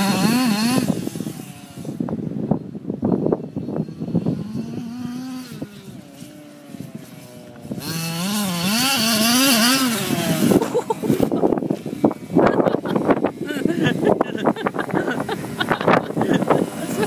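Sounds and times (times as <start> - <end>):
rc truck engine revving: 0.0 - 2.5, 3.1 - 17.0.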